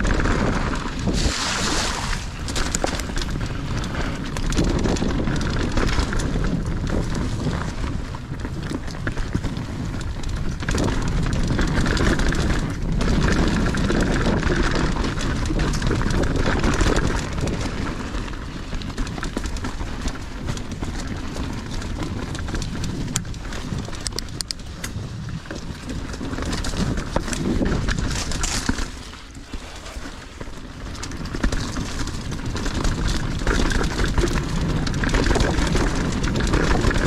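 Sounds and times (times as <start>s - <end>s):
bike tyres and frame rattling: 0.0s - 37.0s
wind rushing over microphone: 0.0s - 37.0s.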